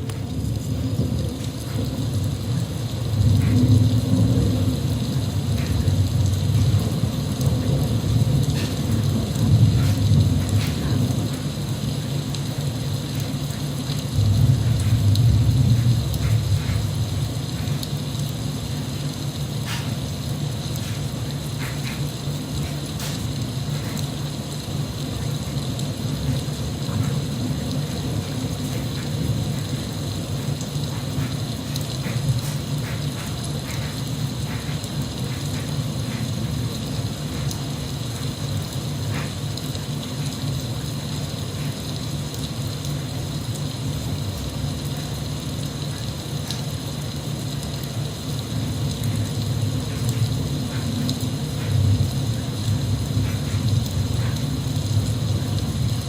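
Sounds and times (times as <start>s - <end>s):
rain drops ticking: 0.0s - 56.0s
steady rain hissing: 0.0s - 56.0s.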